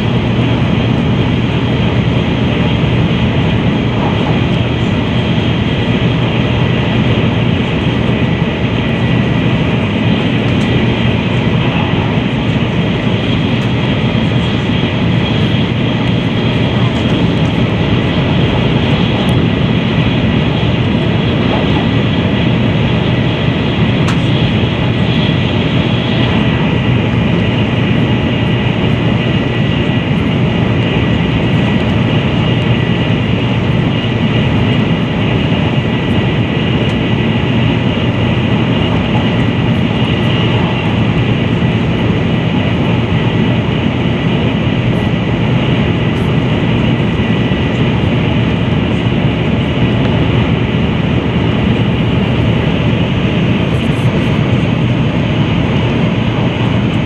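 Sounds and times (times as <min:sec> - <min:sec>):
low rumble of wheels and air: 0:00.0 - 0:57.0.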